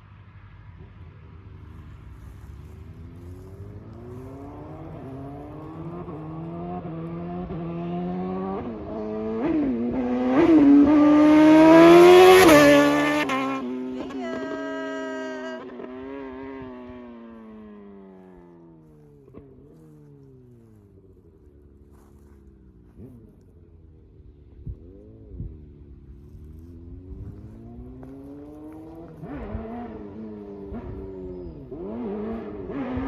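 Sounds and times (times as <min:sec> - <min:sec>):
motorcycle accelerating past: 0:00.0 - 0:33.0.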